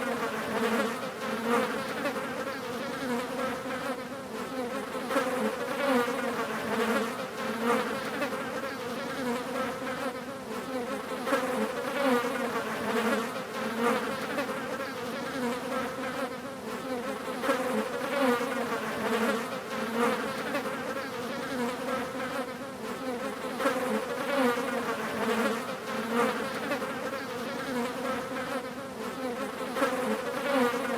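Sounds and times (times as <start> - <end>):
flies buzzing: 0.0 - 30.9.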